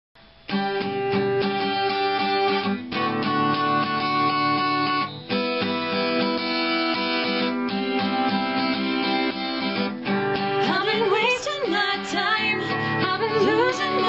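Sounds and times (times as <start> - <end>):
guitar strumming: 0.2 - 14.0.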